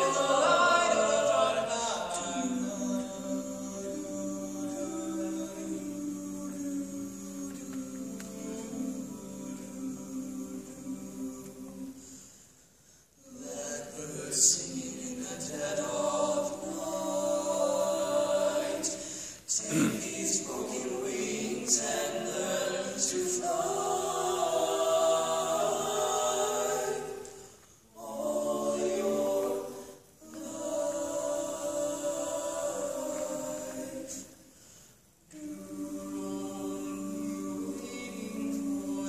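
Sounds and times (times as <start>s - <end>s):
male quartet singing a cappella: 0.0s - 12.4s, 13.2s - 39.0s.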